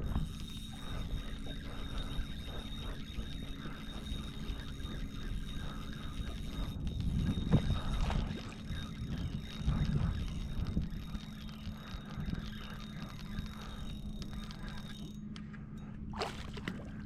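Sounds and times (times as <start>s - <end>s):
electric boat motor humming: 0.0s - 17.0s.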